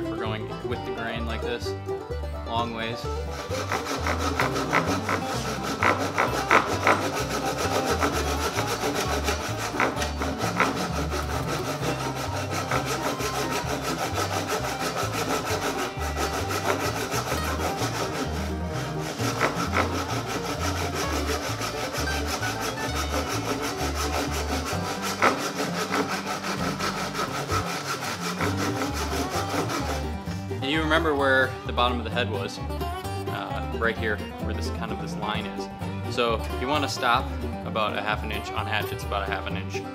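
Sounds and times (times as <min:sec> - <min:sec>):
hand saw cutting wood: 0:02.8 - 0:32.4, 0:33.3 - 0:39.9.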